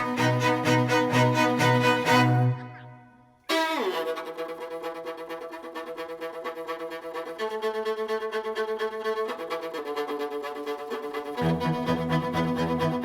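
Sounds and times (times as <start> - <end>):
violin bowed chords: 0.0 - 13.0.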